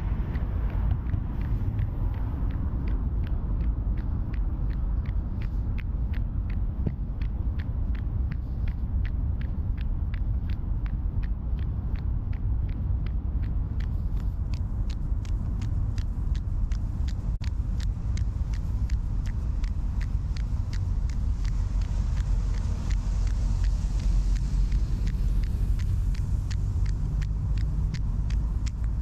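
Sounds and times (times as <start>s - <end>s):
footsteps on wet pavement: 0.0s - 29.0s
low rumble: 0.0s - 29.0s.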